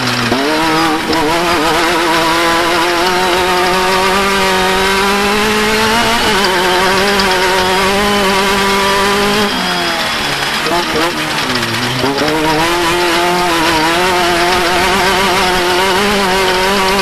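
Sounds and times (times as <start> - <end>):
engine revving hard: 0.0 - 17.0.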